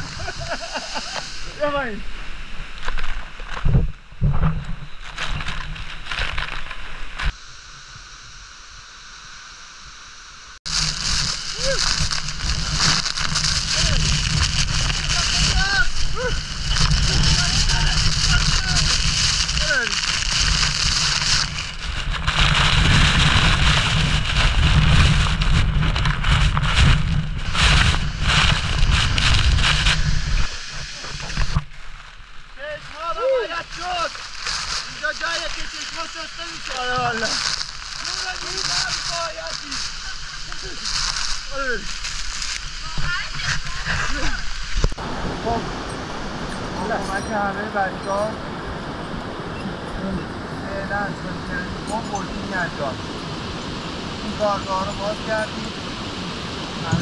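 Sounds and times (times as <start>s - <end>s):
flowing water rush: 0.0s - 3.5s, 10.6s - 57.0s.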